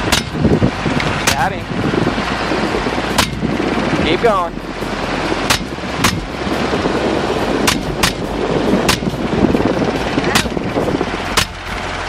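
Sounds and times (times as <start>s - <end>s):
helicopter engine and rotor: 0.4s - 12.0s.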